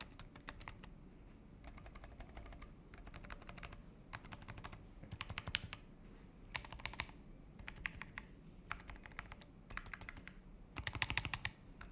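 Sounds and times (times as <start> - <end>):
mechanical keyboard typing: 0.0 - 0.9, 1.6 - 5.8, 6.5 - 11.9.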